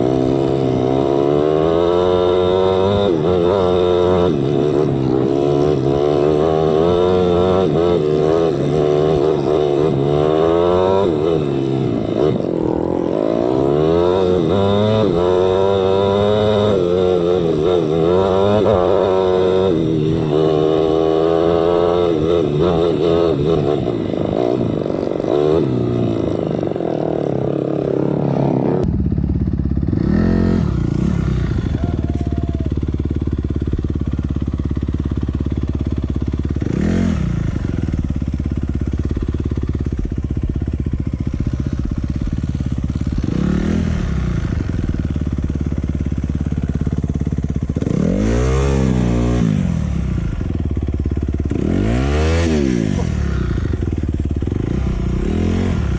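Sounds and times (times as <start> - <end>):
motorcycle engines revving: 0.0 - 55.9.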